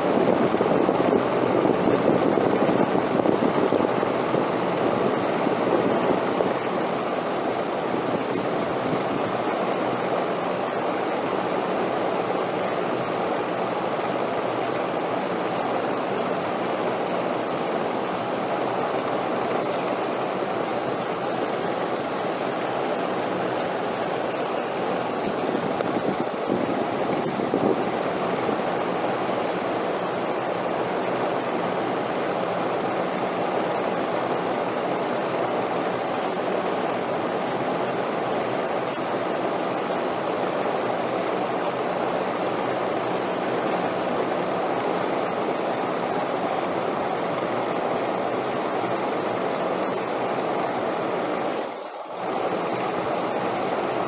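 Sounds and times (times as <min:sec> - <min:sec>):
rushing wind: 0:00.0 - 0:54.0.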